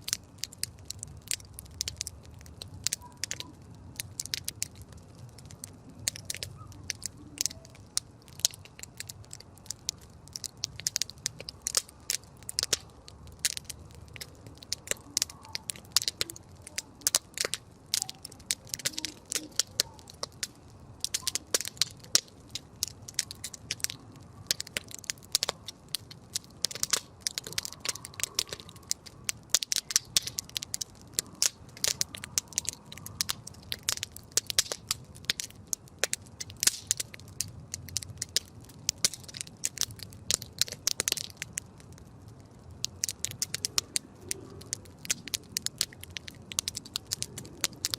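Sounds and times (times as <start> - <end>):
campfire crackling: 0.0 - 47.9
low rumble of burning fire: 0.0 - 47.9.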